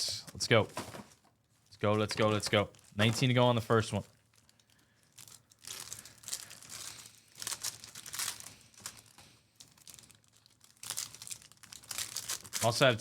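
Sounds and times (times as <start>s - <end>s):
foil wrappers tearing and crinkling: 2.2s - 13.0s.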